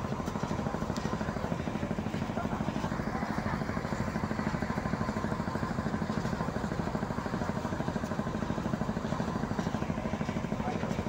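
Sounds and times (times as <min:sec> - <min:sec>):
ship engine throbbing: 0:00.0 - 0:11.0.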